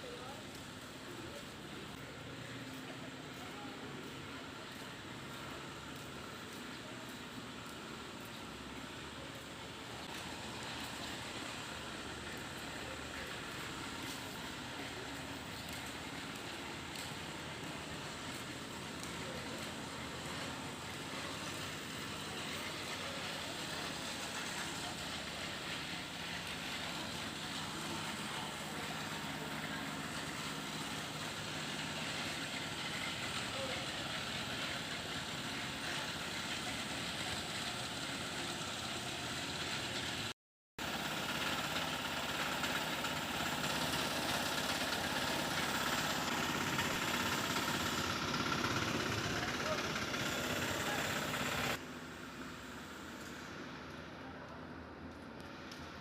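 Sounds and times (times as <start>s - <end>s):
small engine running steadily: 0.0s - 56.0s.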